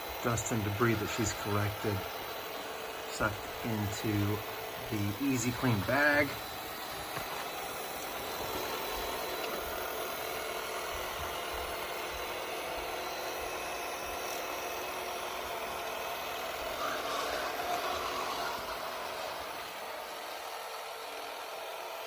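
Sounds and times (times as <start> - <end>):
robot vacuum running: 0.0 - 22.0.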